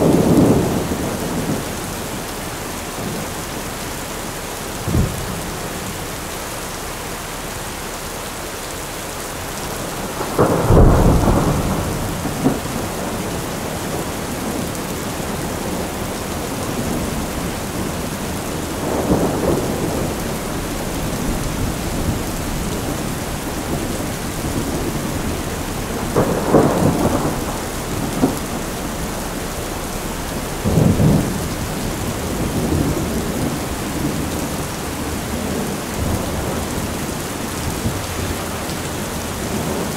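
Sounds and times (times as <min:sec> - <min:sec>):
thunder rumbling: 0:00.0 - 0:06.3, 0:09.2 - 0:39.9
steady rain: 0:00.0 - 0:39.9.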